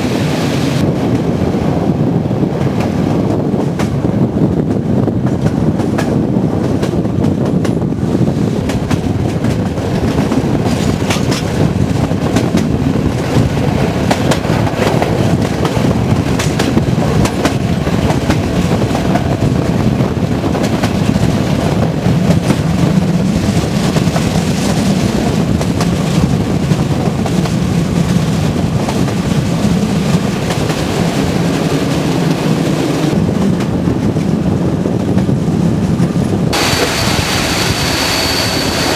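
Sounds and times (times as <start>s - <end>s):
rumble of train wheels on rails: 0.0s - 38.9s.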